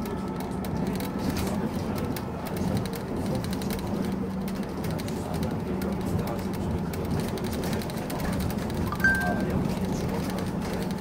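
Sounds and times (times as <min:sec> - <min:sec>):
tram rolling and rumbling on track: 0:00.0 - 0:11.0.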